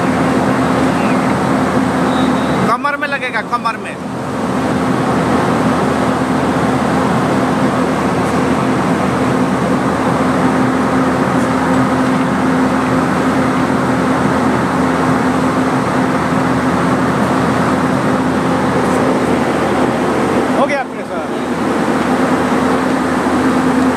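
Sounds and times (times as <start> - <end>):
steady hum: 0.0 - 23.9
compressed air rushing: 4.0 - 23.9.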